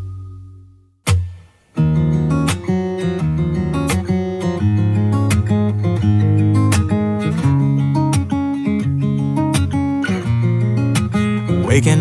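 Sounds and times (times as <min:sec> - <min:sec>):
instrumental pop music with acoustic guitar: 0:00.0 - 0:12.0.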